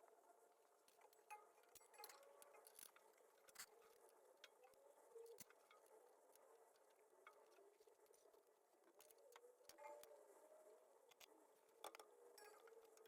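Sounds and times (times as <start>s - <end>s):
faint clicks and ticks: 0.0s - 10.3s, 11.0s - 13.0s
faint background hum: 0.0s - 13.0s.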